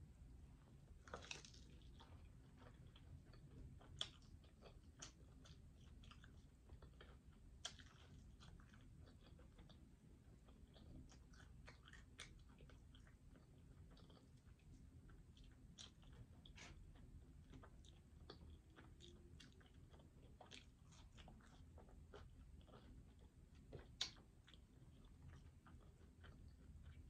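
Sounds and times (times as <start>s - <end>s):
chewing on a chicken wing: 1.0s - 27.0s.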